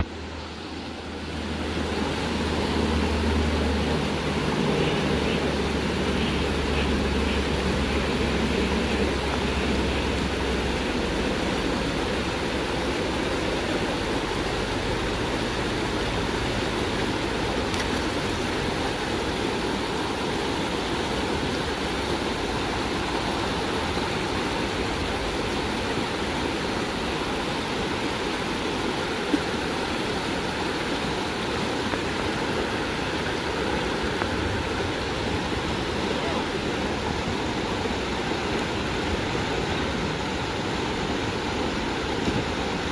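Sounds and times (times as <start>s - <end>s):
river babbling over rocks: 0.0s - 42.9s.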